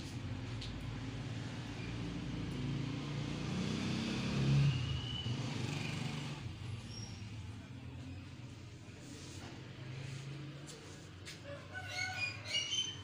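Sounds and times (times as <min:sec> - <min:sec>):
motor vehicle passing by: 0:00.0 - 0:13.0.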